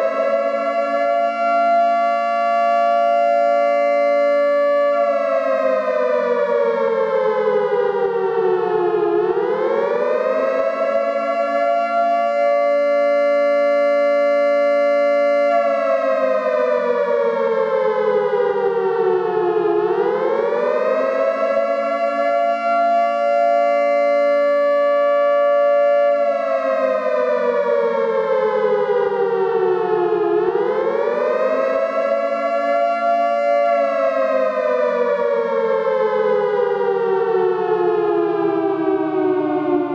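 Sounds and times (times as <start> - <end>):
air raid siren wailing: 0.0 - 39.9.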